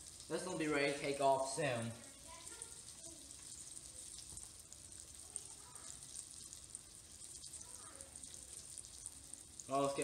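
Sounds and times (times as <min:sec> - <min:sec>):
fish deep-frying in oil: 0:00.0 - 0:10.0.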